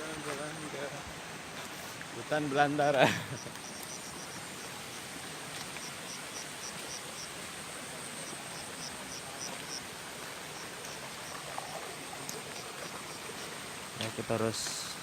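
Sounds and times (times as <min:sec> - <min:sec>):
insects chirping: 0:00.0 - 0:01.4, 0:02.0 - 0:15.0
night ambience hiss: 0:00.0 - 0:15.0.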